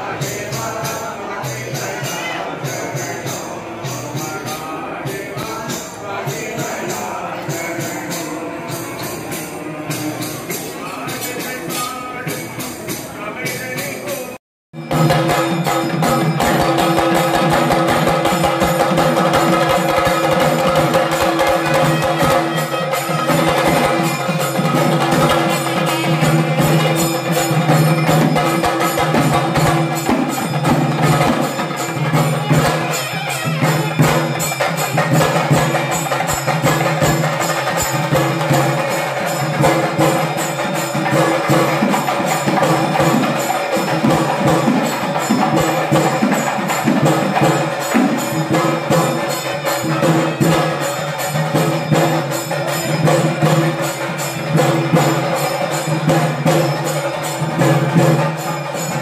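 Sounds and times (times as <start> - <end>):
fast steady drumming: 0.0 - 59.0.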